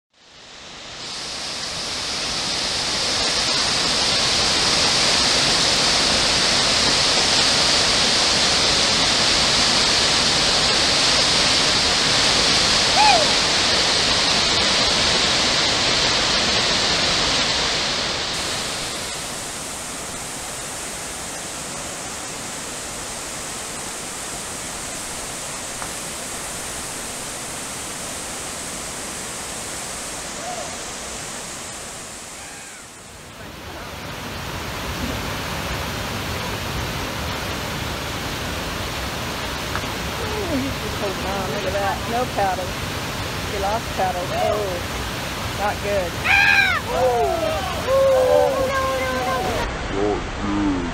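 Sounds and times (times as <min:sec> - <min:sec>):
whitewater rapids roaring: 0:01.0 - 0:50.9.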